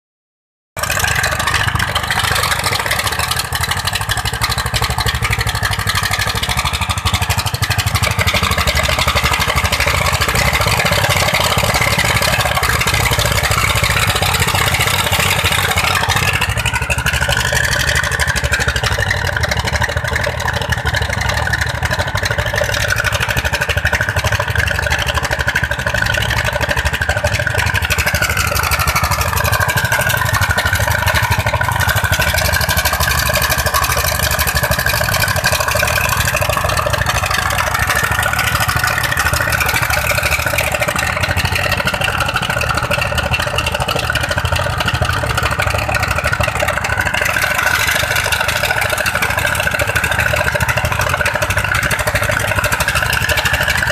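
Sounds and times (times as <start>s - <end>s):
diesel engines running: 0.8s - 53.9s.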